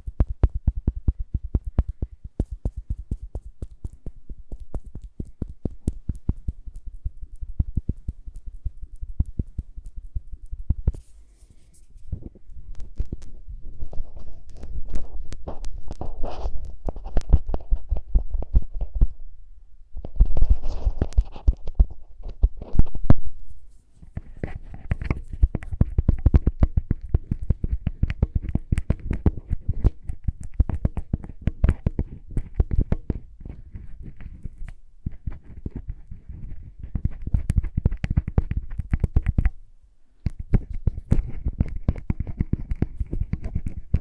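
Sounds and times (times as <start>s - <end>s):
crackly tapping and scratching: 0.0s - 19.2s, 20.0s - 44.0s.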